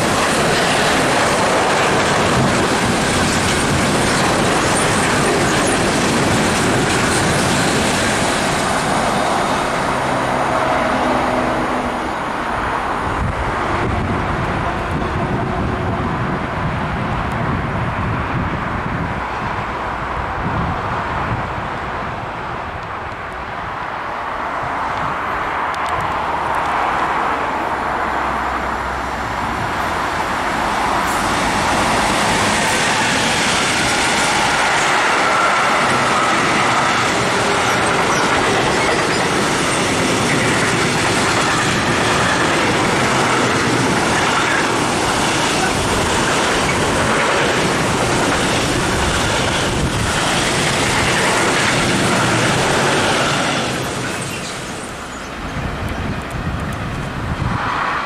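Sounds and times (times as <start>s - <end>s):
freight train wheels rolling on rails: 0.0s - 58.0s.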